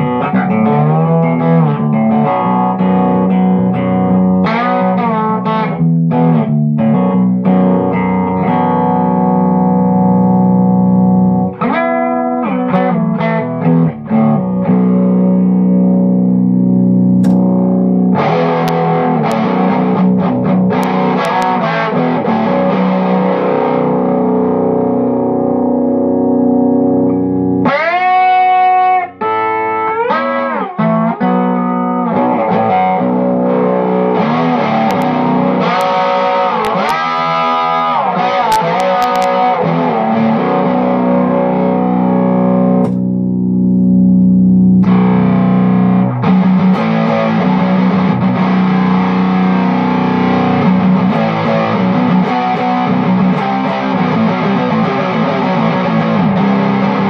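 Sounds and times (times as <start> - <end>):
overdriven electric guitar riffs: 0.0 - 57.0.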